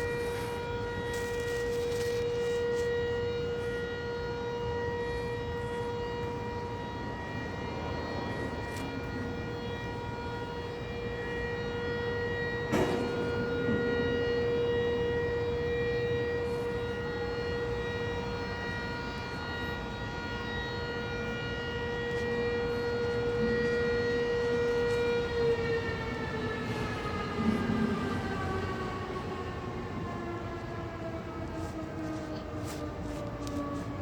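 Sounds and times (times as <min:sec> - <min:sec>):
air-raid siren steady tone: 0:00.0 - 0:34.0.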